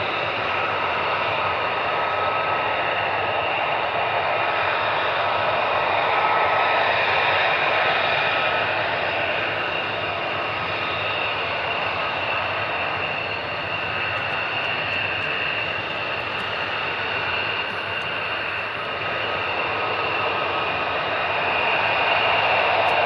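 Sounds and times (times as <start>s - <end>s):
jet engines roaring with whine: 0.0s - 23.0s.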